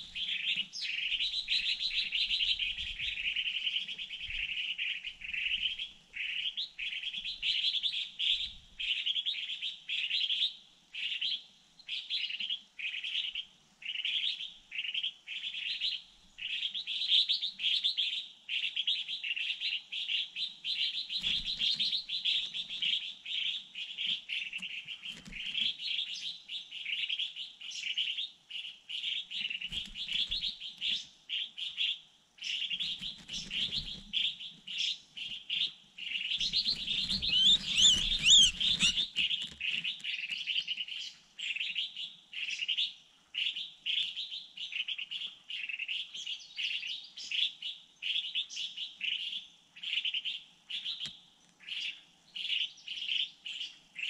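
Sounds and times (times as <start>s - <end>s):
small songbird chirping: 0.0s - 54.0s.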